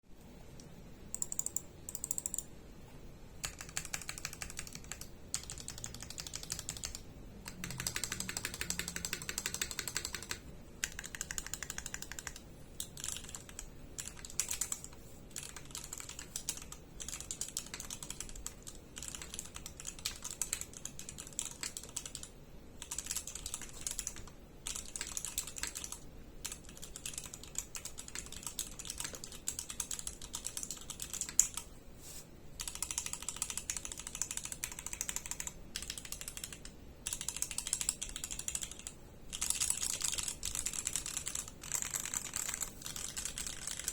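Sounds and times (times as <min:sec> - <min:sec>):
mechanical keyboard typing: 0:01.1 - 0:02.5, 0:03.4 - 0:31.7, 0:32.6 - 0:43.9.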